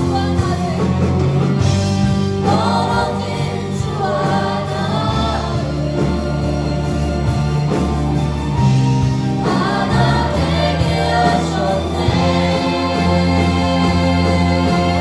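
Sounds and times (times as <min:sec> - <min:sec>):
group singing worship song: 0:00.0 - 0:15.0
instrumental accompaniment with bass: 0:00.0 - 0:15.0.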